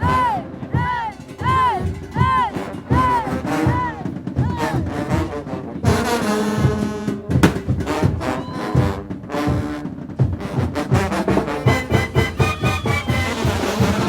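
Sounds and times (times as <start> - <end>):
brass band playing: 2.5 - 14.0.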